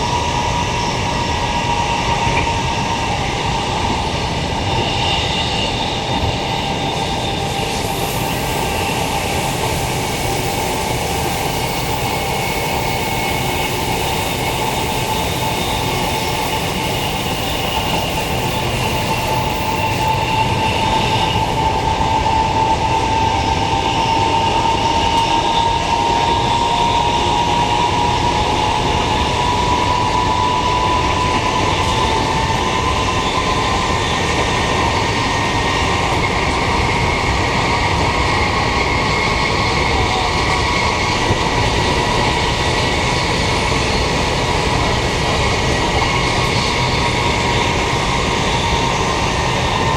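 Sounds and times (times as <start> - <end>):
electric train running on rails: 0.0 - 49.9.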